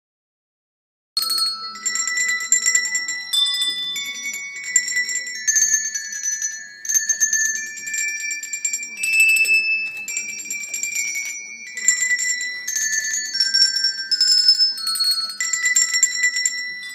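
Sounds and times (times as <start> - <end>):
handbells ringing a melody: 1.2 - 16.9.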